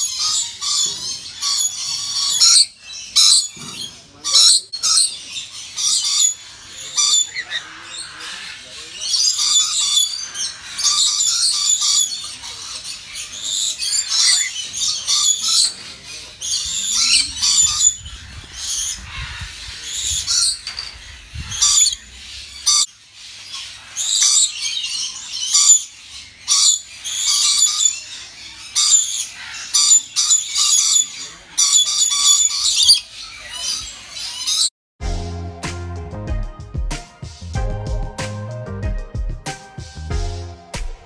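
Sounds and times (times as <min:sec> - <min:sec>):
parrots screeching: 0:00.0 - 0:34.7.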